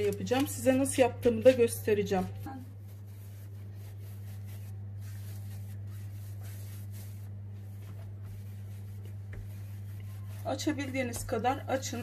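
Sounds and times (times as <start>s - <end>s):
dough rubbing on countertop: 0.0s - 12.0s
low electrical hum: 0.0s - 12.0s.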